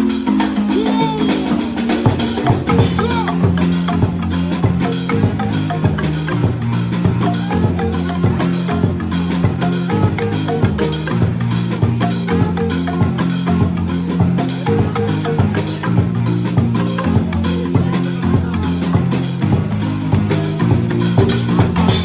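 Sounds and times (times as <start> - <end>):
deep bass marimba notes: 0.0 - 22.0
marimba band playing: 0.0 - 22.0
percussion groove: 0.0 - 22.0.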